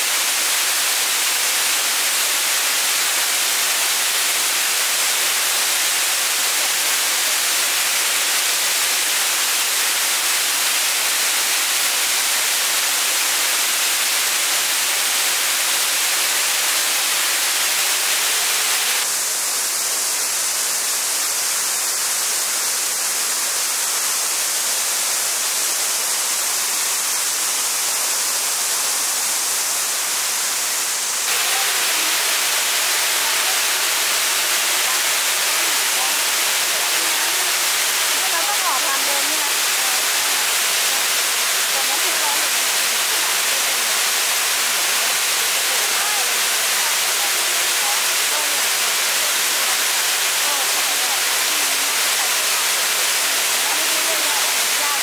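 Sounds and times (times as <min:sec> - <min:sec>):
hissy steady noise: 0:00.0 - 0:55.0
waterfall rushing: 0:00.0 - 0:55.0.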